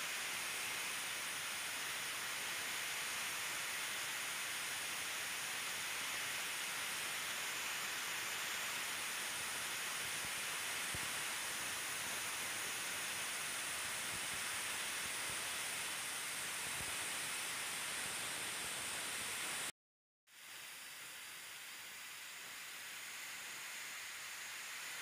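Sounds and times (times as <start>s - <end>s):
static hiss: 0.0s - 19.7s, 20.3s - 25.0s.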